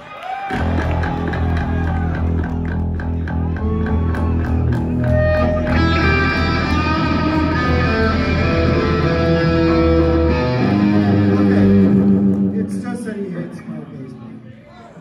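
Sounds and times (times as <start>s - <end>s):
electric bass: 0.5s - 12.8s
electric guitar: 0.5s - 13.6s.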